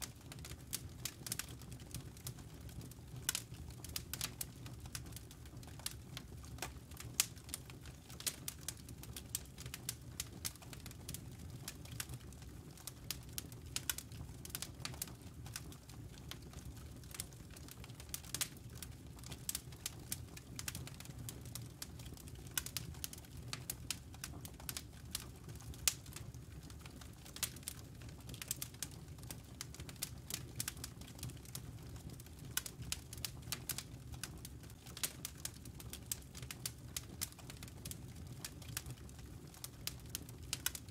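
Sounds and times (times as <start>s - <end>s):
fire crackling and popping: 0.0s - 40.9s
low rumble of fire: 0.0s - 40.9s.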